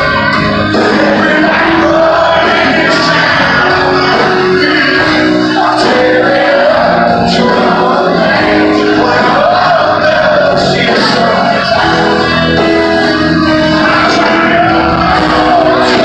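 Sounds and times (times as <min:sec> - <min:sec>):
live country band: 0:00.0 - 0:16.0
man singing a ballad: 0:00.8 - 0:12.8, 0:13.5 - 0:16.0.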